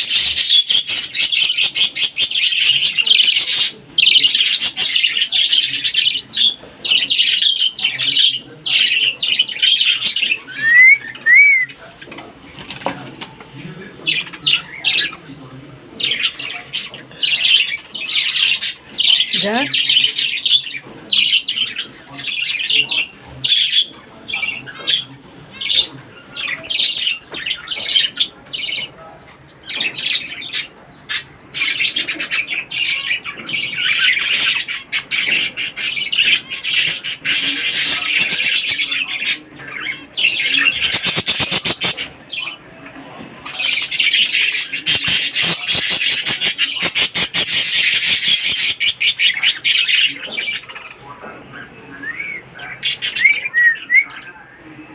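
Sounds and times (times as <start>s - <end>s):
budgerigars chirping and chattering: 0.0s - 54.9s.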